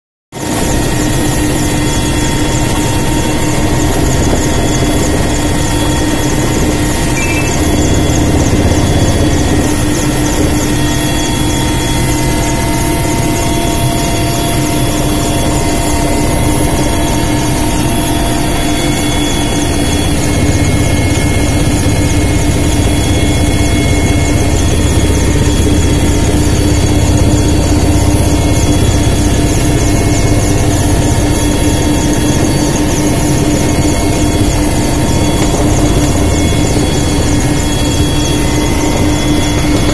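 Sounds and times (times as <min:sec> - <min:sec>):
helicopter engine and rotor: 0:00.3 - 0:39.9.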